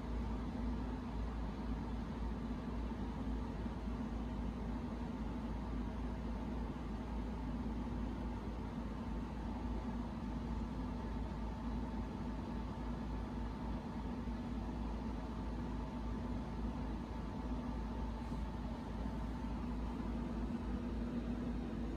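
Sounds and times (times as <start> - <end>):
machine hum with low rumble: 0.0 - 21.9.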